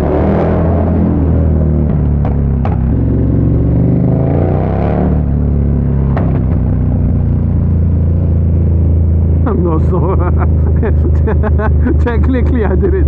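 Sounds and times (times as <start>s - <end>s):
exhaust cracks: 0.0s - 4.4s, 5.1s - 13.0s
motorcycle engine revving: 0.0s - 13.0s.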